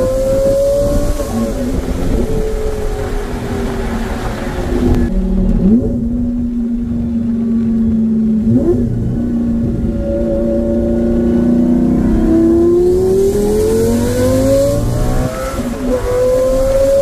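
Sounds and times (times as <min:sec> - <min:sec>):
sports car engine running: 0:00.0 - 0:17.0.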